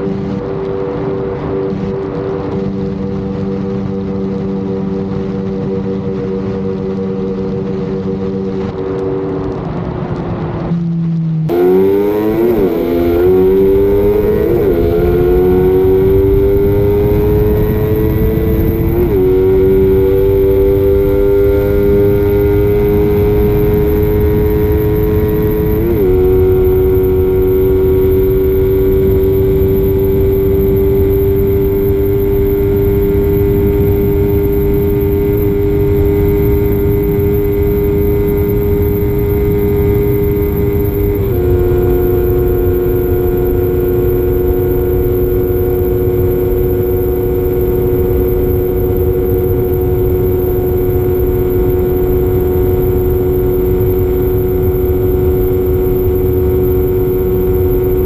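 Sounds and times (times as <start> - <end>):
motorcycle engine accelerating: 0.0 - 58.0
wind rumble on microphone: 0.0 - 58.0.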